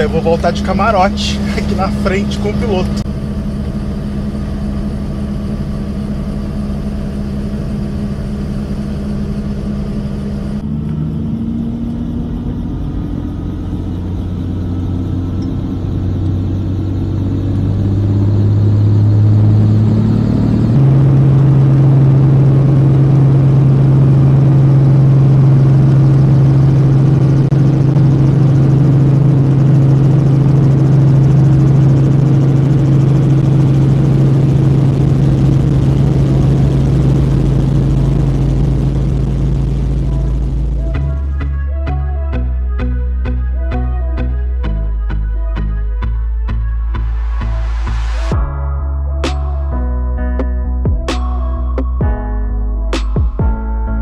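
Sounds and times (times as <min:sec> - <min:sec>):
helicopter droning hum: 0:00.0 - 0:53.8.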